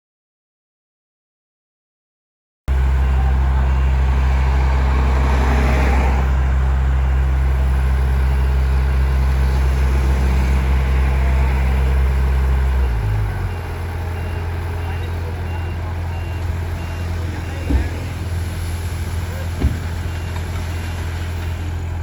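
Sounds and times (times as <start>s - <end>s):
bulldozer diesel engine running: 2.7s - 22.0s.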